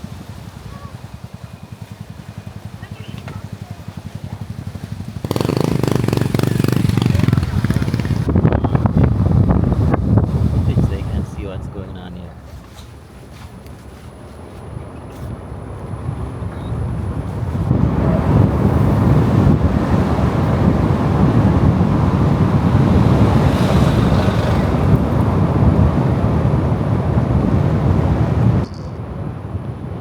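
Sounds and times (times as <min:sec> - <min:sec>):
wind buffeting microphone: 0:00.0 - 0:30.0
car road noise: 0:01.6 - 0:30.0.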